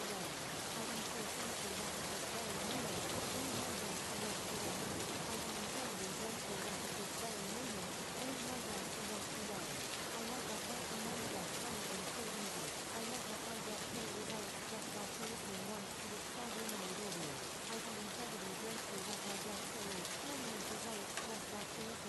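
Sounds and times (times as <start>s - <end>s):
steady rain patter: 0.0s - 22.0s.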